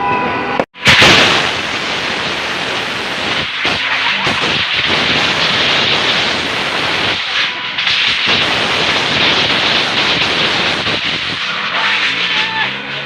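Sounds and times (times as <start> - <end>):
firecrackers crackling and banging: 0.8 - 13.0.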